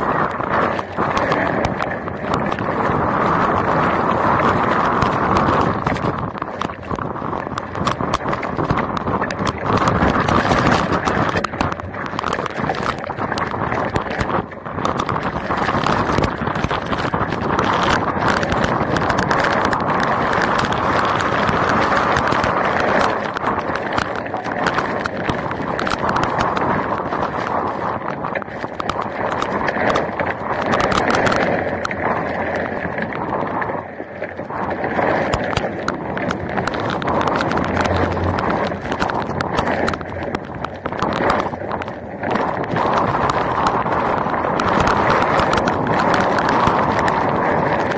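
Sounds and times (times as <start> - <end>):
heavy rain pelting: 0.0 - 47.9.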